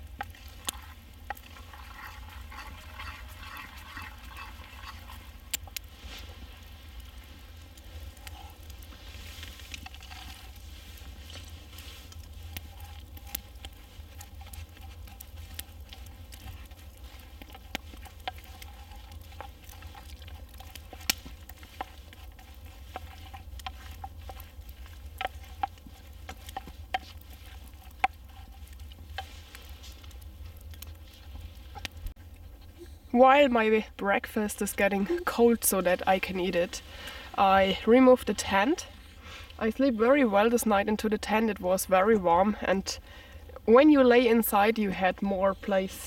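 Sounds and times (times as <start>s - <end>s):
wooden spoon scraping a pan: 0.0s - 32.5s, 34.1s - 42.8s.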